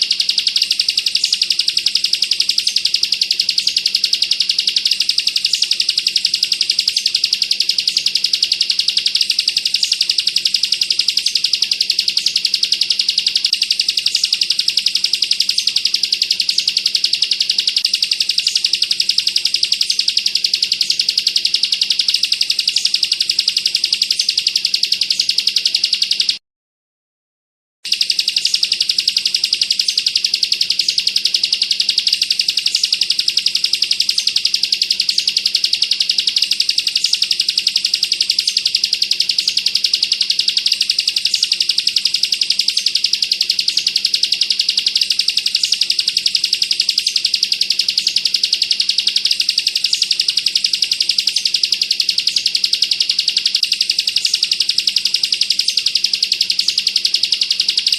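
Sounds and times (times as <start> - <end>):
bird singing rapid trill: 0.0 - 26.4, 27.9 - 57.9.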